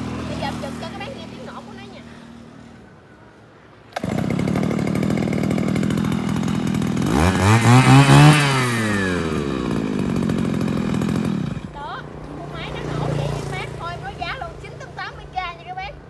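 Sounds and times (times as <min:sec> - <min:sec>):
grass cutter engine: 0:00.0 - 0:02.0, 0:03.9 - 0:14.9.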